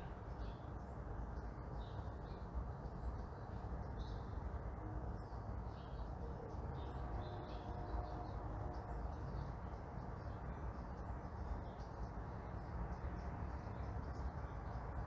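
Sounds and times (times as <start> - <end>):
distant traffic rumble: 0.0 - 15.0
small birds chirping: 0.3 - 4.5, 5.2 - 15.0.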